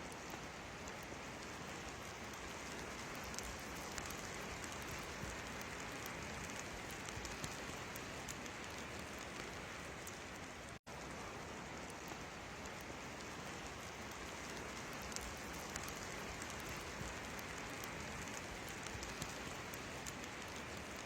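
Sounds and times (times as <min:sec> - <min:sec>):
rain ticking on surfaces: 0:00.0 - 0:21.0
storm rain hissing: 0:00.0 - 0:21.0.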